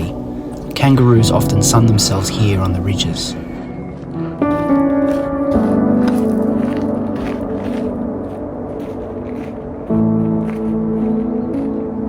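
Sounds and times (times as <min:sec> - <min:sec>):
background music with sustained chords: 0:00.0 - 0:12.0.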